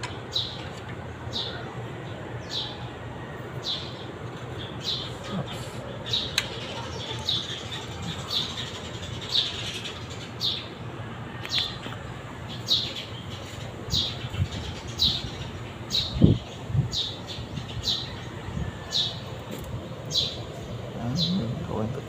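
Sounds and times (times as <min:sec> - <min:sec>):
bird chirping: 0:00.0 - 0:02.9, 0:03.6 - 0:10.8, 0:12.4 - 0:22.0.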